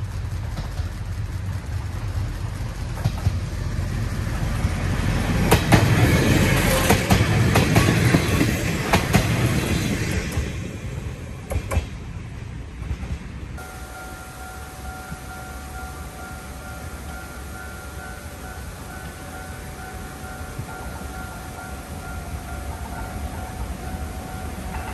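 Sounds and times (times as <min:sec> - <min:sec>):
train rumbling past: 0:00.0 - 0:24.9.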